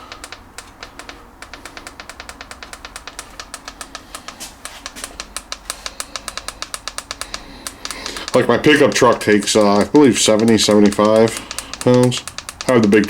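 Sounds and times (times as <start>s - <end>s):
tire inflator compressor clattering: 0.0s - 13.0s.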